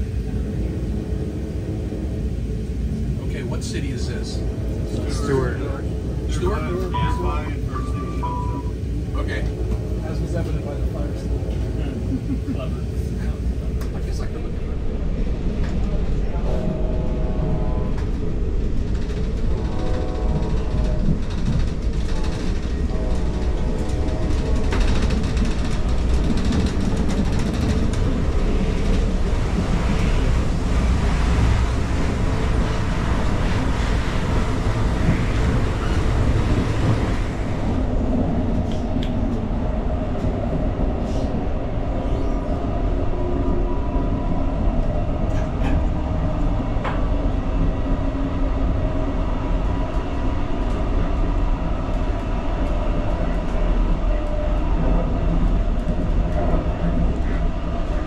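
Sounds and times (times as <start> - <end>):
train rumble with rolling hiss: 0.0 - 58.0.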